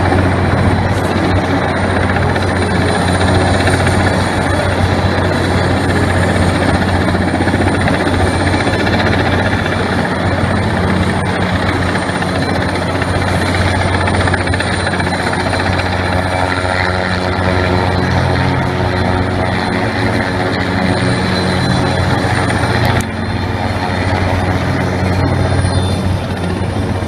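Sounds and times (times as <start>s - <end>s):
helicopter hovering: 0.0s - 27.0s.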